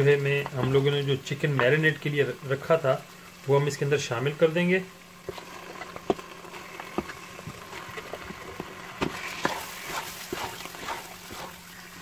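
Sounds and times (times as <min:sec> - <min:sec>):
light sizzle: 0:00.0 - 0:12.0.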